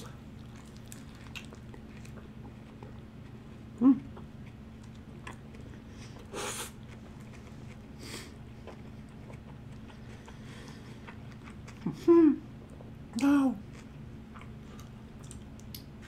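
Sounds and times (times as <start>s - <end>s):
person chewing food: 0.0s - 13.0s, 13.6s - 16.0s
steady low hum: 0.0s - 16.0s.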